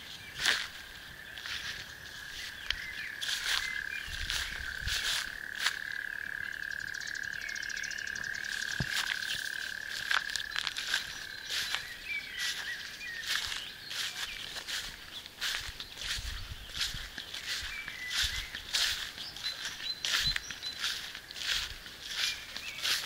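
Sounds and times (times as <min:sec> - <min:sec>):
footsteps through grass: 0:00.0 - 0:06.5, 0:08.3 - 0:23.0
frogs trilling chorus: 0:00.0 - 0:23.0.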